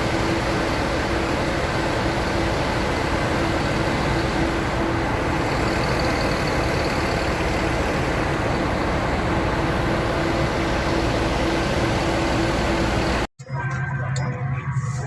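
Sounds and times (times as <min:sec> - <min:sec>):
airliner engine drone: 0:00.0 - 0:15.0.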